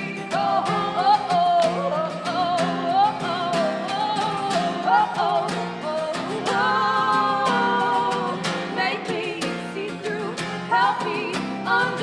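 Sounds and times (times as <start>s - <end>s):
guitars strummed: 0.0s - 12.0s
person singing: 0.0s - 12.0s.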